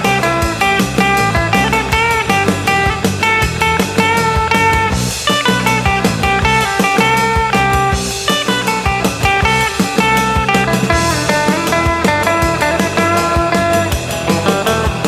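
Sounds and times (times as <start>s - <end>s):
bass: 0.0s - 15.0s
drum beat: 0.0s - 15.0s
electric guitar lead: 0.0s - 15.0s.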